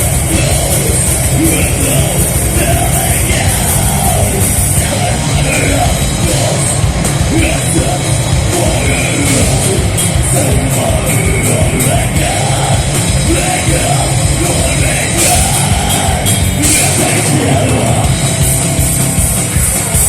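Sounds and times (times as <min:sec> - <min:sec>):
heavy rock band playing: 0:00.0 - 0:20.0
yelled vocals: 0:00.0 - 0:20.0.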